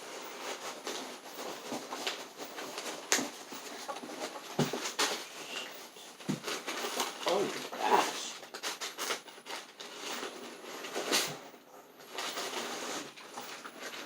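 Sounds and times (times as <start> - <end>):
packing material rustling: 0.0 - 14.0.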